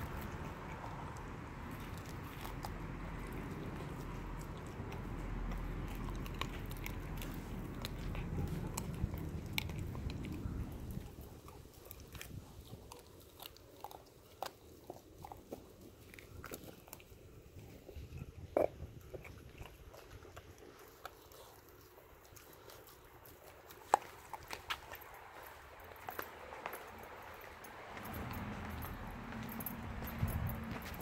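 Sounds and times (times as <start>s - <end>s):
puppy crunching fish bones: 0.0s - 31.0s.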